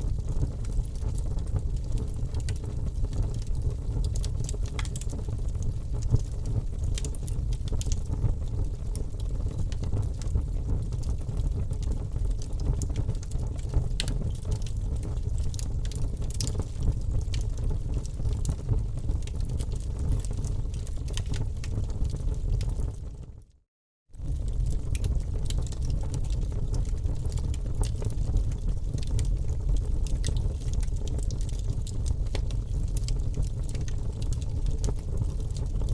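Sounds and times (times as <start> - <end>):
wood fire crackling: 0.1 - 8.5, 9.4 - 23.0, 24.2 - 35.9.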